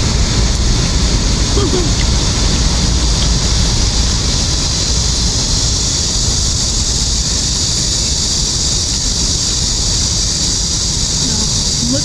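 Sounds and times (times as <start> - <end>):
constant high hiss: 0.0 - 12.0
low fluctuating rumble: 0.0 - 12.0.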